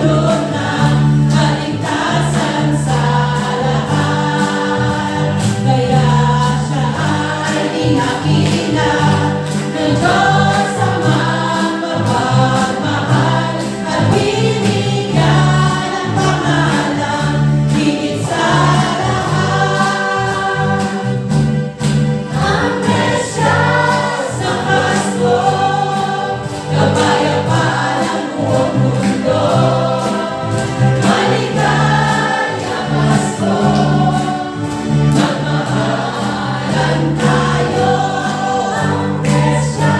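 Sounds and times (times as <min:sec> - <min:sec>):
choir singing with instruments: 0:00.0 - 0:39.9.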